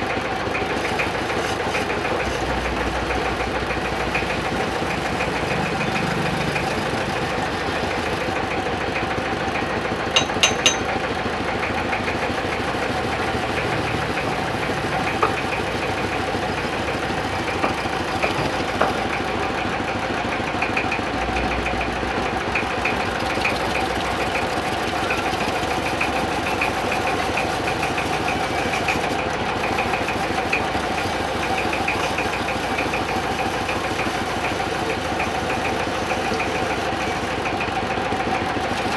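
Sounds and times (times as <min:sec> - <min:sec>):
lathe turning wood: 0:00.0 - 0:08.6, 0:11.8 - 0:38.9.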